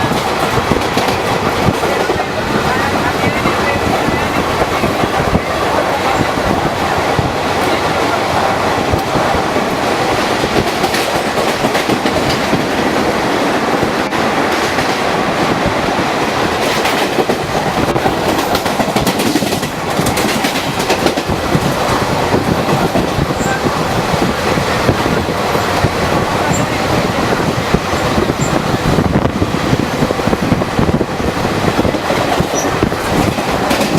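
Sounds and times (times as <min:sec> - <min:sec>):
train coaches rushing past: 0:00.0 - 0:33.9.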